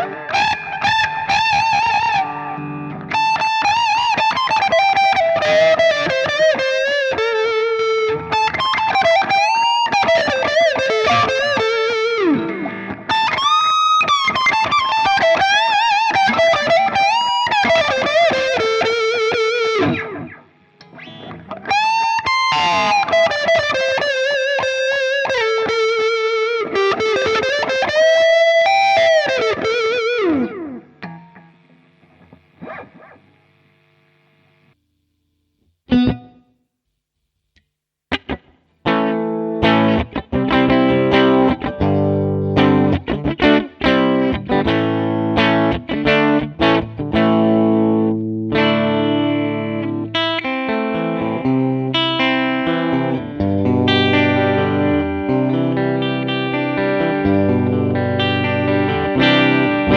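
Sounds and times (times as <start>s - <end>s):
overdriven electric guitar lead: 0.0s - 34.8s, 35.9s - 36.4s, 38.1s - 59.9s.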